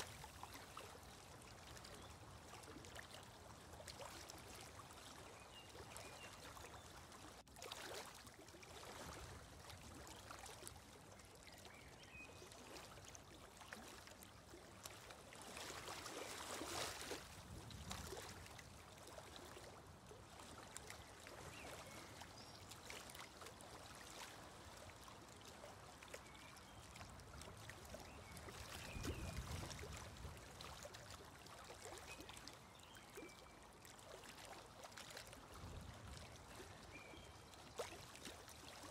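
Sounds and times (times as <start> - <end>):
flowing water: 0.0 - 38.9.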